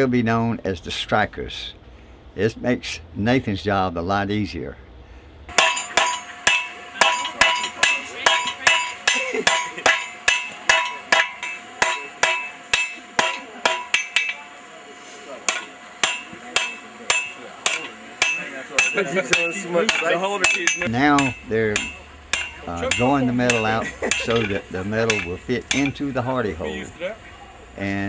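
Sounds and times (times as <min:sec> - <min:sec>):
hammers striking steel on an anvil: 0:05.5 - 0:28.0.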